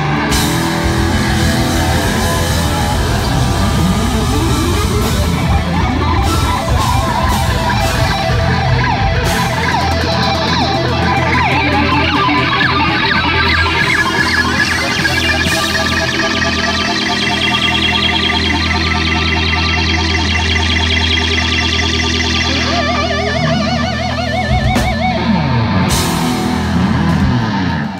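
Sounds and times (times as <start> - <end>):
distorted electric guitar shredding: 0.0 - 27.9
heavy metal band playing: 0.0 - 27.9.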